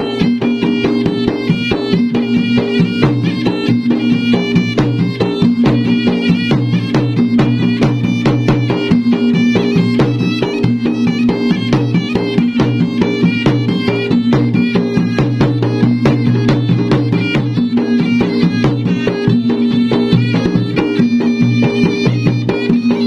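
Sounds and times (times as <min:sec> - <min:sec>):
drums in fast driving rhythm: 0:00.0 - 0:23.0
shrill reed pipe melody: 0:00.0 - 0:23.0.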